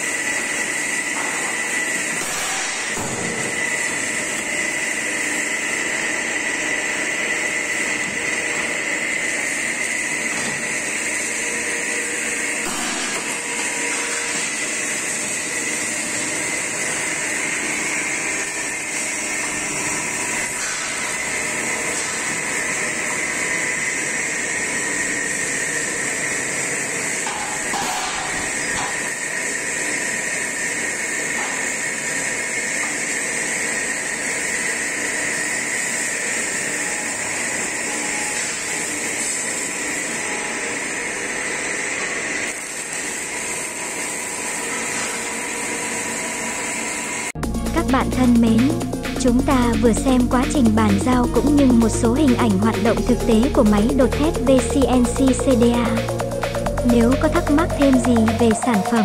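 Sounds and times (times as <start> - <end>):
machine drone and hiss: 0.0 - 59.0.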